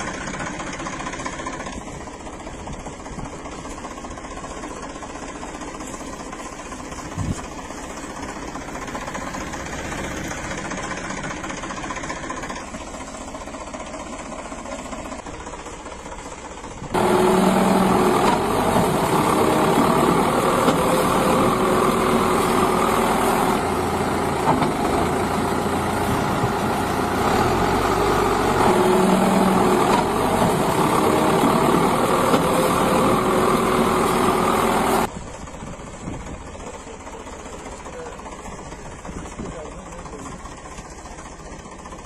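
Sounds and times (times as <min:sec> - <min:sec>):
heavy vehicle engine running: 0:00.0 - 0:42.0.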